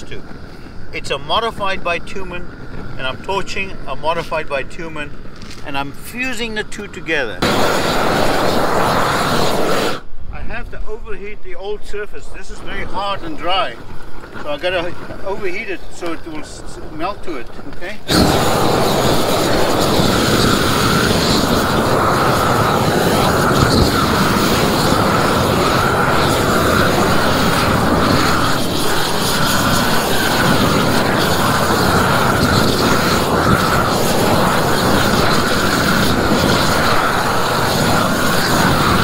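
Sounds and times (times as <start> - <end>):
roofing torch flame rushing: 0.0 - 39.0.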